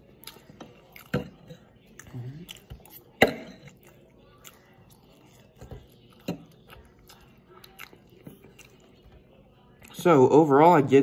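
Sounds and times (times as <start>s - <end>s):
chewing: 0.0s - 10.1s.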